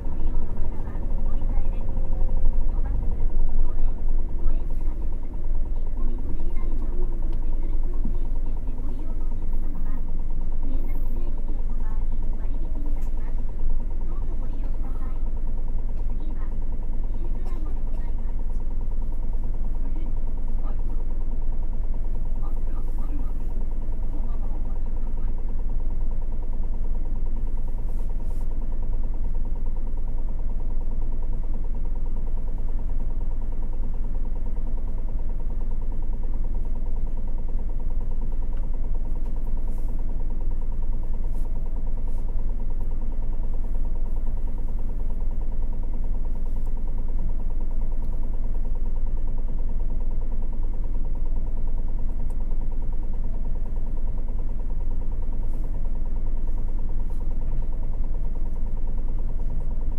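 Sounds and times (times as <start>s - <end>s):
bus engine rumbling: 0.0s - 59.9s.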